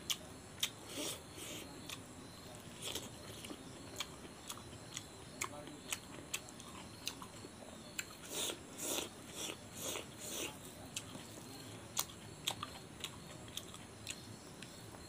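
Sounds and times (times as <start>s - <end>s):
crunchy chewing of food: 0.0s - 15.0s.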